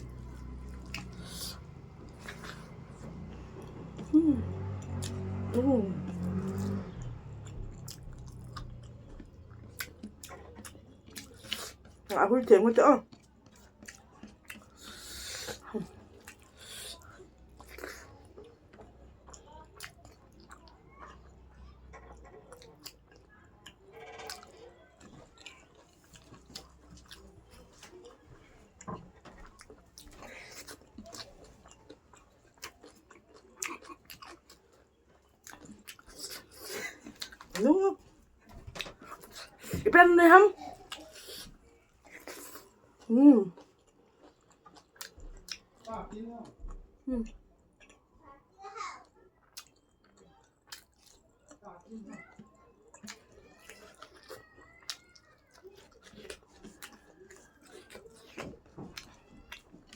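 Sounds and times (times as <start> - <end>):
person chewing food: 0.0 - 12.2, 13.0 - 39.9, 40.6 - 48.1, 49.3 - 59.9.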